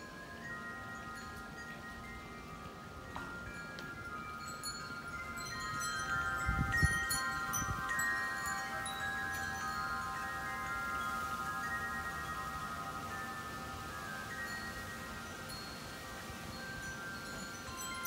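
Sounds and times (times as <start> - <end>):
metal wind chimes ringing: 0.0 - 18.0.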